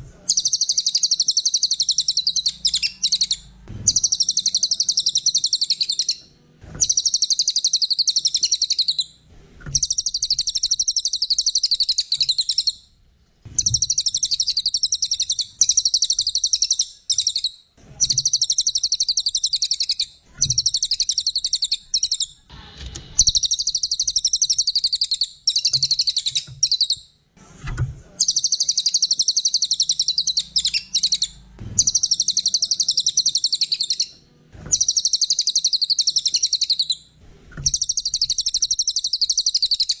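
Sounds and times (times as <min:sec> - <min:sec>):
songbird chattering trill: 0:00.3 - 0:06.2, 0:06.8 - 0:09.1, 0:09.8 - 0:12.8, 0:13.6 - 0:22.4, 0:23.2 - 0:27.0, 0:28.2 - 0:34.1, 0:34.8 - 0:37.0, 0:37.7 - 0:40.0.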